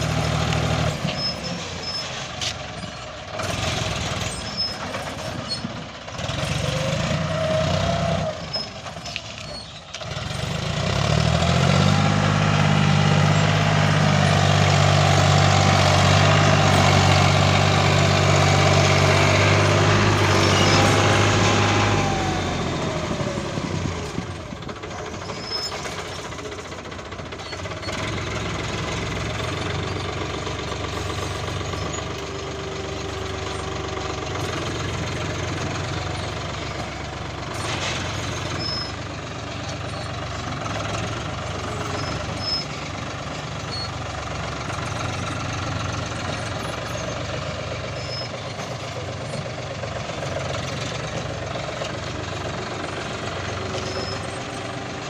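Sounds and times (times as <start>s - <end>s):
diesel machinery engines running: 0.0s - 55.0s.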